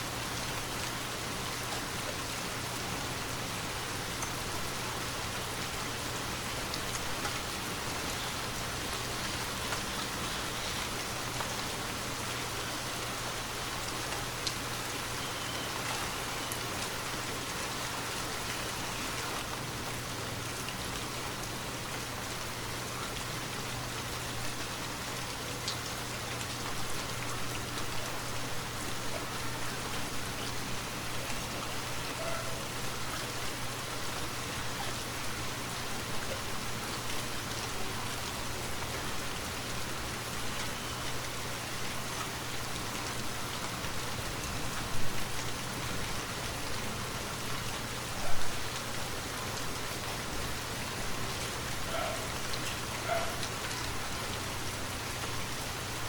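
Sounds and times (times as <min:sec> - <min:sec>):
steady rainfall hissing: 0:00.0 - 0:56.0.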